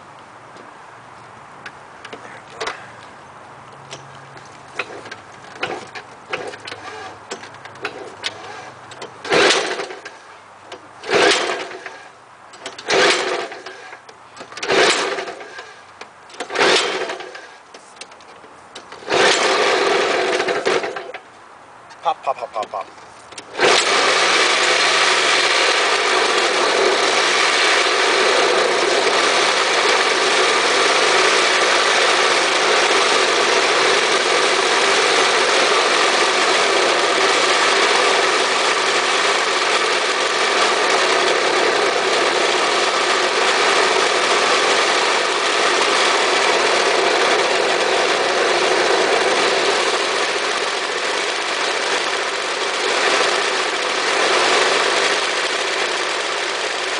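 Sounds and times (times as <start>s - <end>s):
snowblower engine starting: 2.0s - 3.1s, 3.8s - 21.3s, 22.0s - 56.9s.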